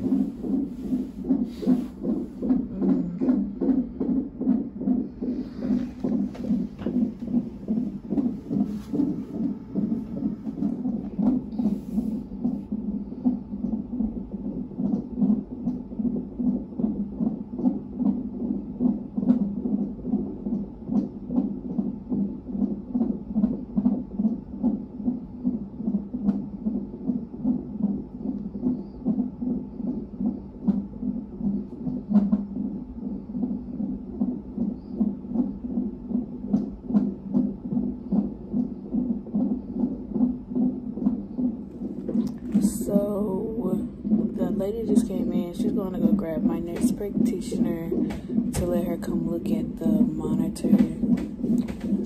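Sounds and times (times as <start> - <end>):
whooshing fetal heartbeat pulses: 0.0 - 52.0.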